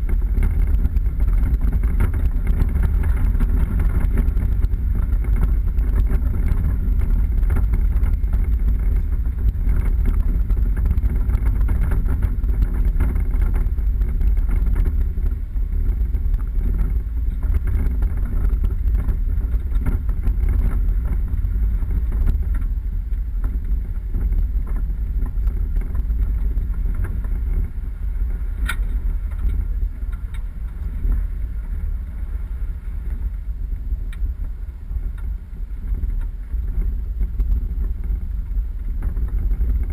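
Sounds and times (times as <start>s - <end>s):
vehicle engine and tyres rumbling: 0.0s - 39.9s
wind buffeting the microphone: 0.0s - 39.9s.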